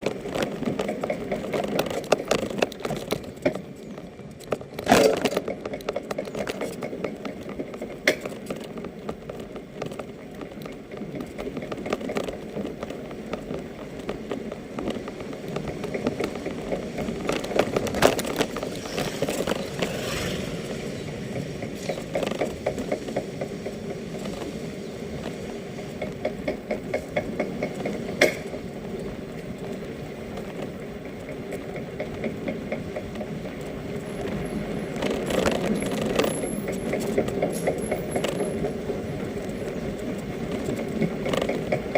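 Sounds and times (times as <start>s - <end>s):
electric bicycle rattling clatter: 0.0s - 41.9s.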